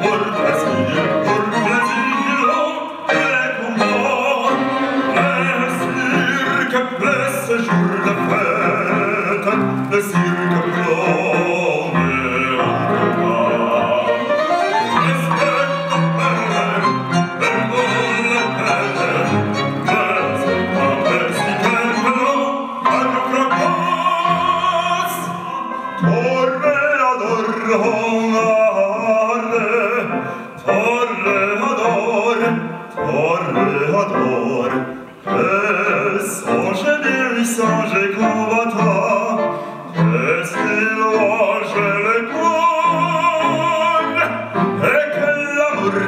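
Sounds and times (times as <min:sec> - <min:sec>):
operatic singing with vibrato: 0:00.0 - 0:46.0
string ensemble: 0:00.0 - 0:46.0.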